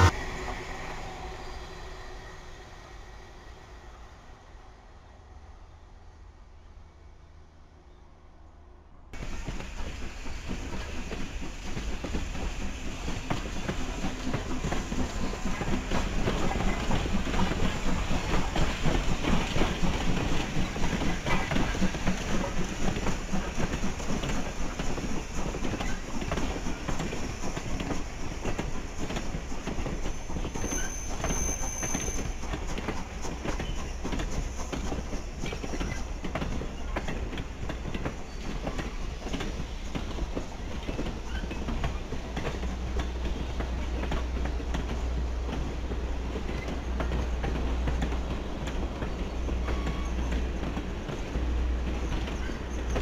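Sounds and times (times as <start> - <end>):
train wheels clicking over rail joints: 9.2 - 53.0.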